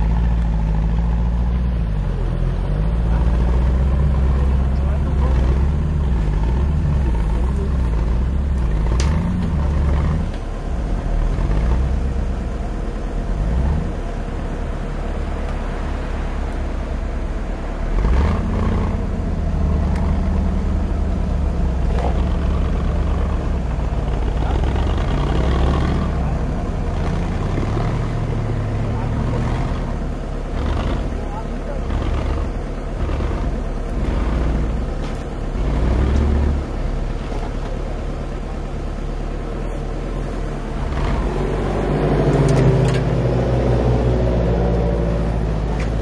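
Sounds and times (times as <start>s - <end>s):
truck engine labouring: 0.0s - 46.0s.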